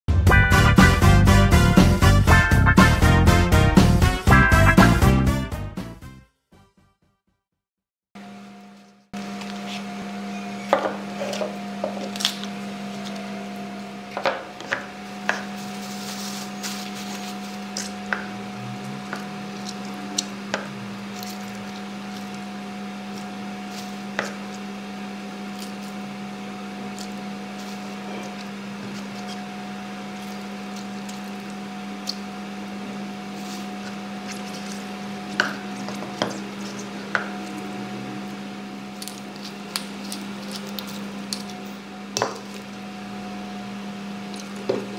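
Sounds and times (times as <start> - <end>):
steady low hum: 8.2 - 44.9.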